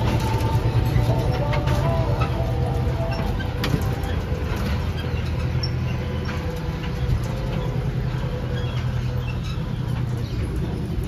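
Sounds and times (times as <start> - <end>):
clicking and rattling: 0.0 - 11.0
miniature train humming: 0.0 - 11.0.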